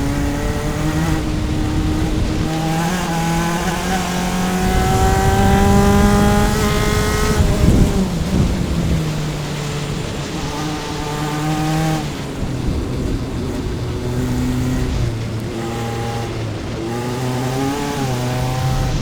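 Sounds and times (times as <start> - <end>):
race car engine: 0.0 - 19.0
wind and road noise: 0.0 - 19.0.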